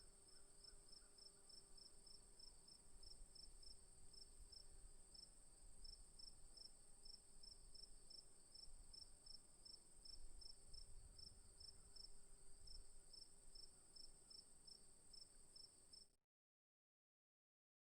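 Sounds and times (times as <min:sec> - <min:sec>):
crickets chirping: 0:00.1 - 0:16.1.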